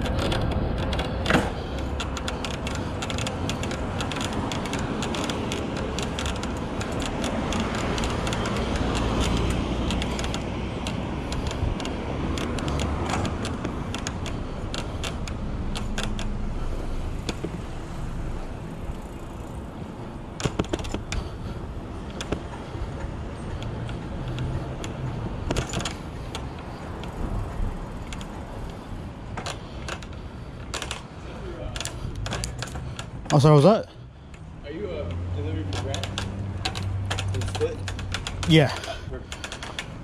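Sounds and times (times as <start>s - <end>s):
bike clicks and rattles: 0.0s - 34.5s, 35.5s - 40.0s
tyre noise on pavement: 0.0s - 40.0s.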